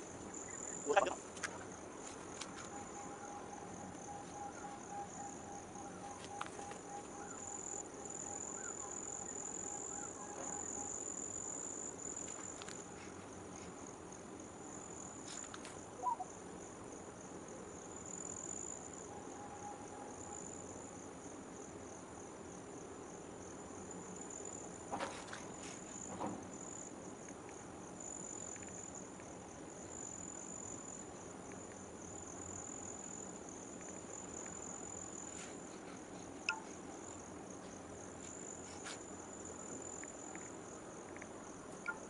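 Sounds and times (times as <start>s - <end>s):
insects trilling: 0.0s - 42.0s.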